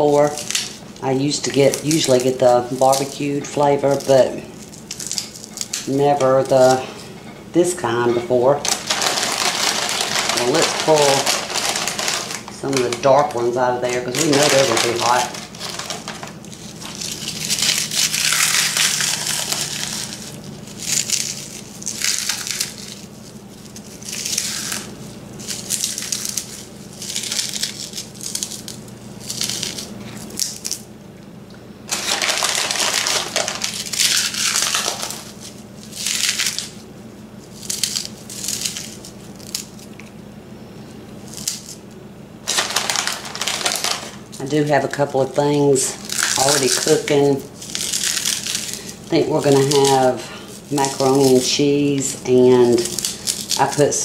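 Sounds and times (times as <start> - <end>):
pork rinds crunching: 0.0 - 6.8, 8.6 - 30.9, 31.9 - 40.2, 41.2 - 45.4, 46.0 - 54.0.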